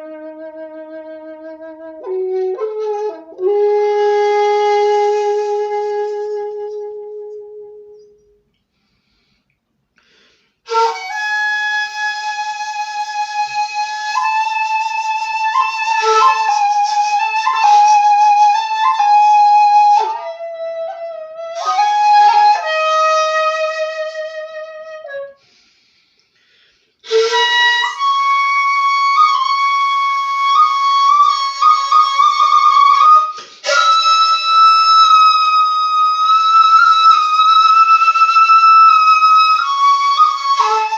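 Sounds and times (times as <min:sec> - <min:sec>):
shakuhachi flute melody: 0:00.0 - 0:08.5, 0:10.4 - 0:40.9.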